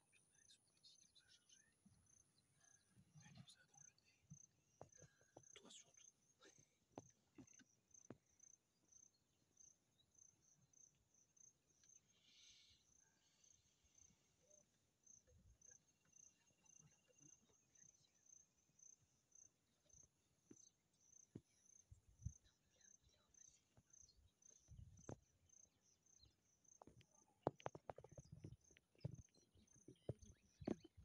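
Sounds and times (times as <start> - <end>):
faint insect chirping: 0.0 - 31.0.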